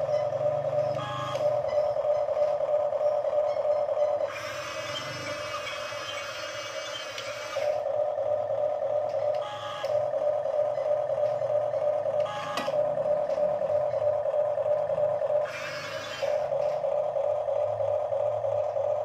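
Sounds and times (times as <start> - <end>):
toy excavator motors whining: 0.0 - 19.0.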